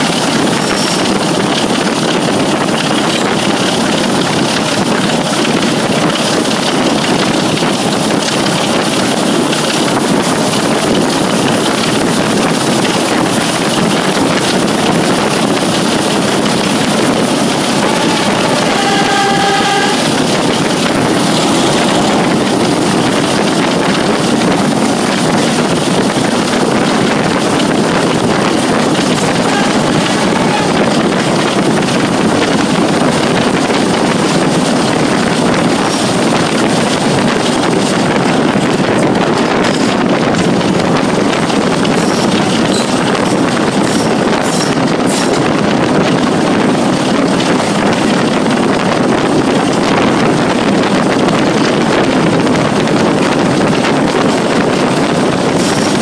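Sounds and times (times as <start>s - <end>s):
locomotive engine: 0.0s - 56.0s
train wheels on rails: 0.0s - 56.0s
wind buffeting microphone: 0.0s - 56.0s.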